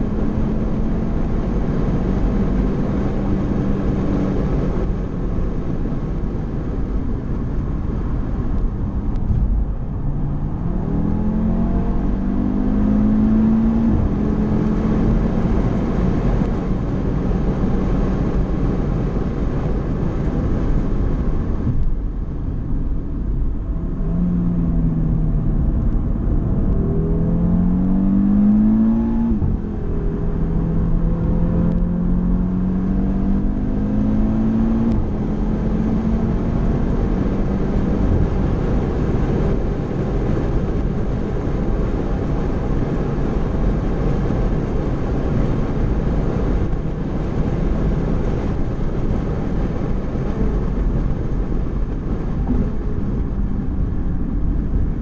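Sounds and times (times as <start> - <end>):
car engine accelerating: 0.0 - 55.0
wind and tyre roar: 0.0 - 55.0.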